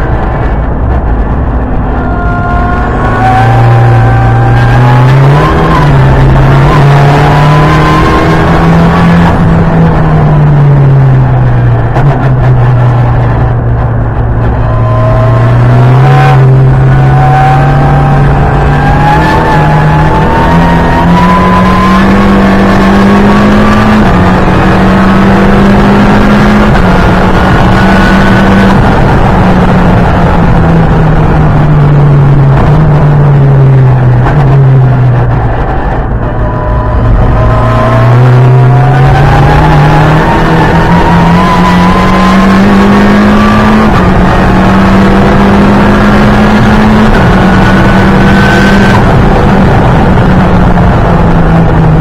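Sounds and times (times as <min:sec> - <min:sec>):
car engine revving hard: 0:00.0 - 0:52.0.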